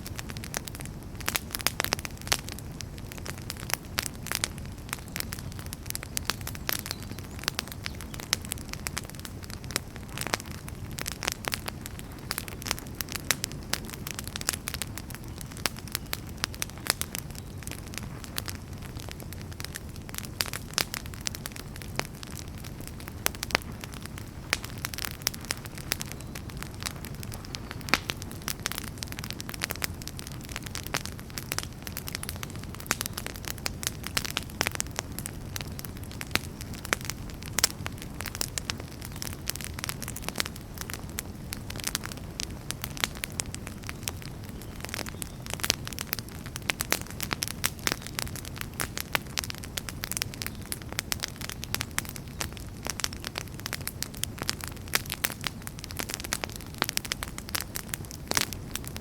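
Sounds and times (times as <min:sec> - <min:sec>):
flames rumbling: 0:00.0 - 0:59.0
wood popping and crackling: 0:00.0 - 0:59.0.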